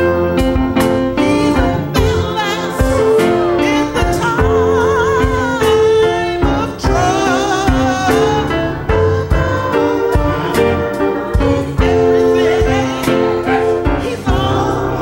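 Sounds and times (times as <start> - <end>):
choir singing gospel with instruments: 0.0 - 15.0.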